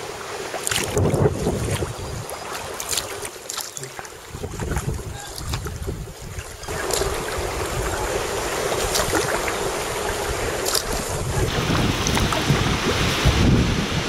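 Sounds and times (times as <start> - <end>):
sea water splashing around kayak: 0.0 - 14.0
wind rumbling on microphone: 0.7 - 3.0, 3.8 - 14.0.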